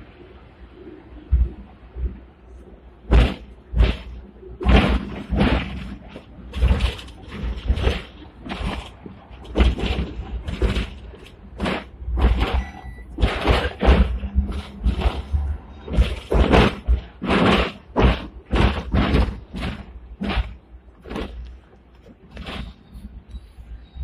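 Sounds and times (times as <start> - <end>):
tram wheels clunking on rails: 1.1 - 24.0.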